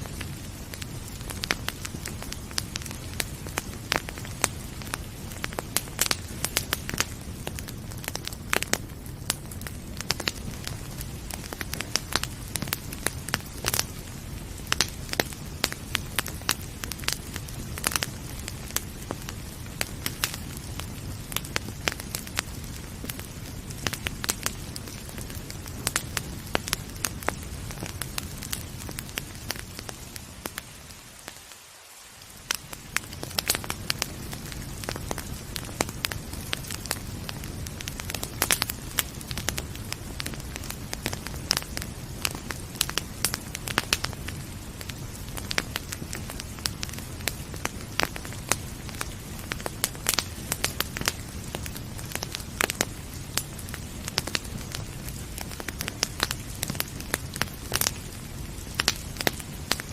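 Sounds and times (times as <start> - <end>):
rain hissing: 0.0 - 59.9
wood fire crackling and popping: 0.0 - 59.9.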